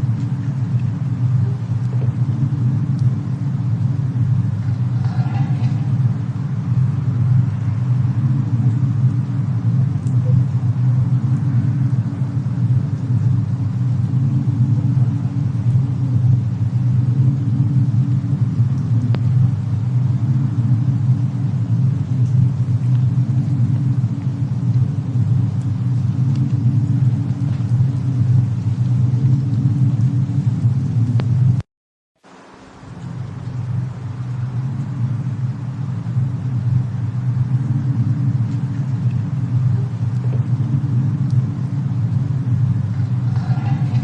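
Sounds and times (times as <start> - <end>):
faint fire crackles: 0.0 - 31.6, 32.2 - 44.0
low rumble of fire and snowstorm: 0.0 - 44.0.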